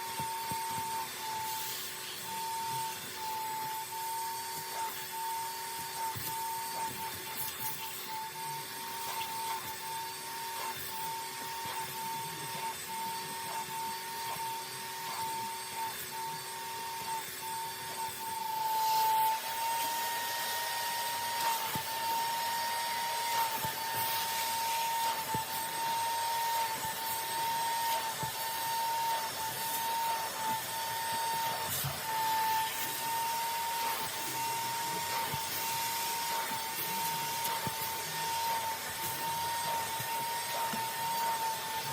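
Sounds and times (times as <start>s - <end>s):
vacuum motor whining: 0.0s - 41.9s.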